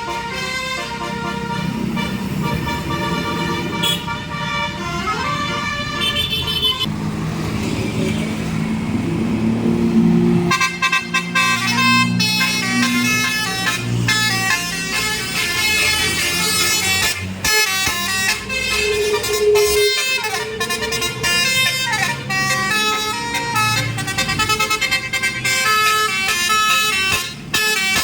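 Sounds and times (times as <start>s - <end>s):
musical bus horn playing a tune: 0.0s - 6.9s, 10.4s - 28.0s
bus engine and road noise: 0.0s - 28.0s.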